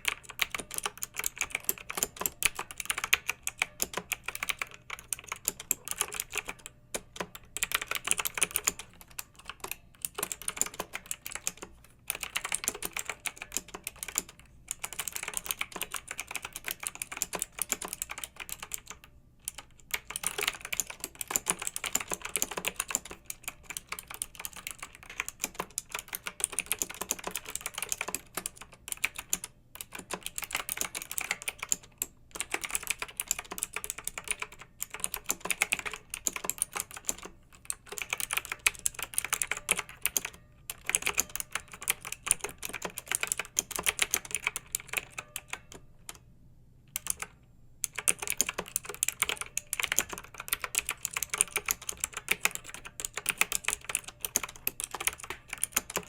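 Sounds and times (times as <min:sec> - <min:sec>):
mechanical keyboard typing: 0:00.0 - 0:46.2, 0:46.9 - 0:56.0.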